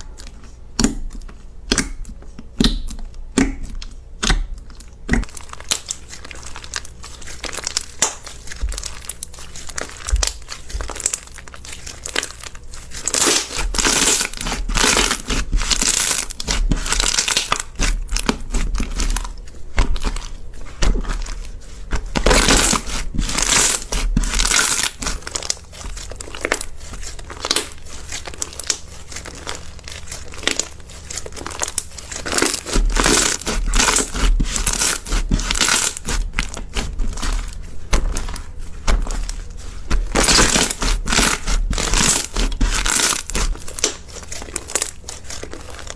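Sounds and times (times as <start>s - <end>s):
slime squished by hand: 0.0s - 45.9s.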